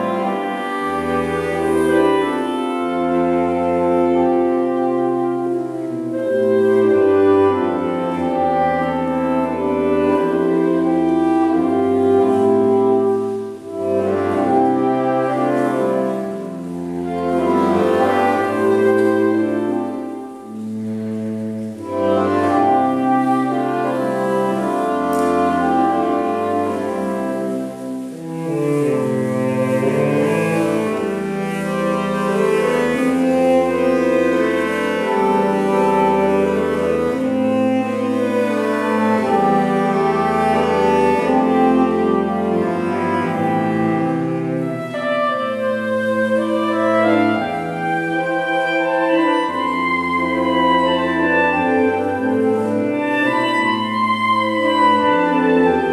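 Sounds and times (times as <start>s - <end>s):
saxophone quartet playing: 0.0s - 55.9s.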